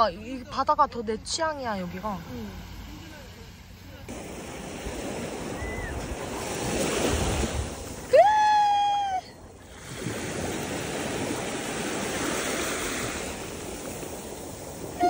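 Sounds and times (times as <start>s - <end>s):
small waves washing on sand: 1.8s - 15.0s.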